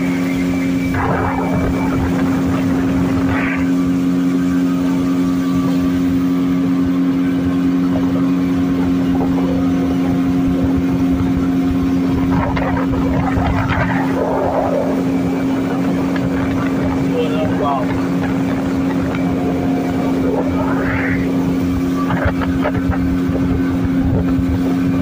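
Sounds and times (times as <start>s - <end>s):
outboard motor droning: 0.0s - 25.0s.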